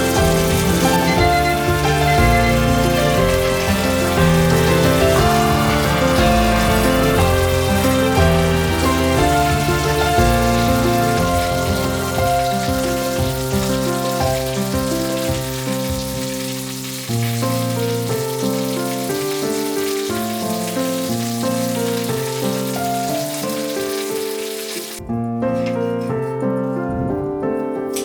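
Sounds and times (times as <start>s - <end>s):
chicken sizzling in oil: 0.0s - 25.0s
gentle piano music: 0.0s - 28.0s.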